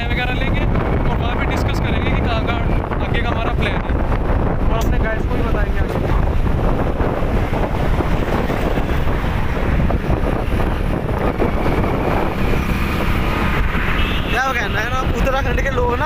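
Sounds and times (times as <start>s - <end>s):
road and engine noise: 0.0s - 16.0s
wind buffeting microphone: 0.0s - 16.0s.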